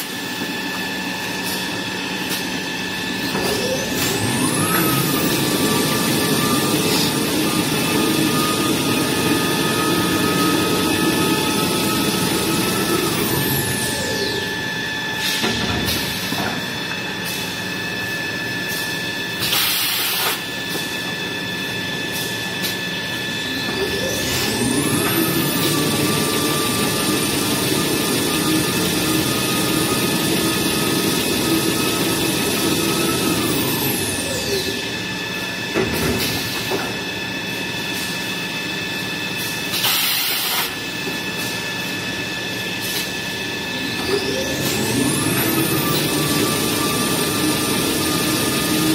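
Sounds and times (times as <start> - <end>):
machinery high whine: 0.0 - 48.9.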